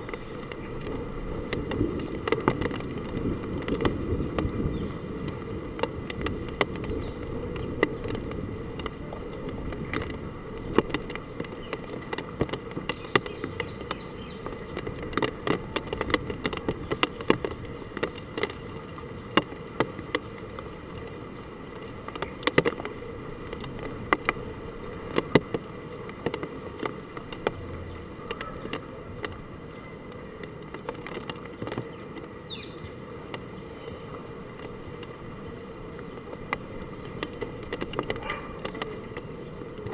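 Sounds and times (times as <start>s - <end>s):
heavy rain and wind: 0.0s - 39.9s
raindrops tapping hard surface: 0.0s - 39.9s.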